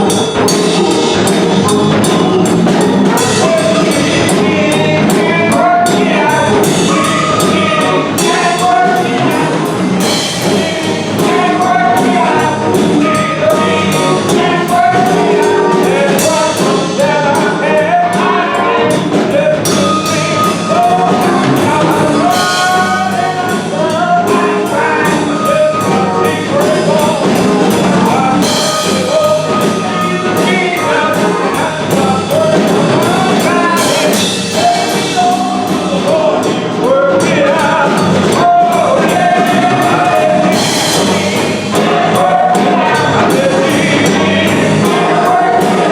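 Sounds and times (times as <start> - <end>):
instrumental accompaniment: 0.0 - 45.9
voices singing gospel: 0.0 - 45.9.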